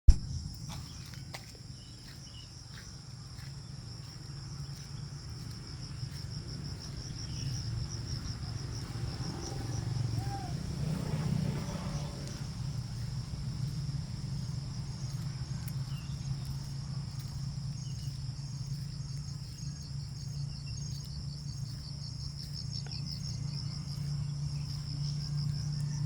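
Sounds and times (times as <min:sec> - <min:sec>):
low rumble: 0:00.1 - 0:26.0
insects trilling: 0:00.2 - 0:26.0.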